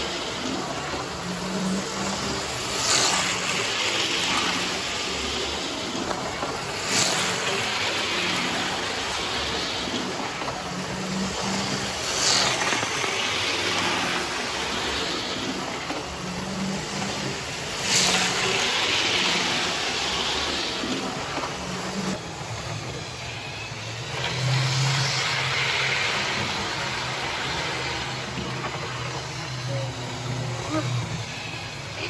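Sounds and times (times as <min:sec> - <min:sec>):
model train rumbling: 0:00.0 - 0:32.0.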